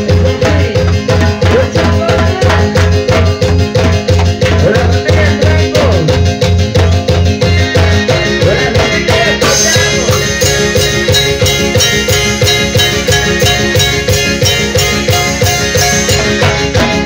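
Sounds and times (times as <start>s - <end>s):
folk dance music: 0.0s - 17.0s.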